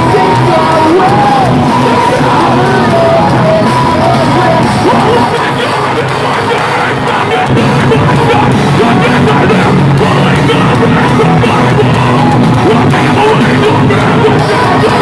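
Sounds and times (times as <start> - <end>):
bass guitar: 0.0 - 15.0
distorted electric guitars: 0.0 - 15.0
drums: 0.0 - 15.0
vocalist yelling into microphone: 0.0 - 15.0.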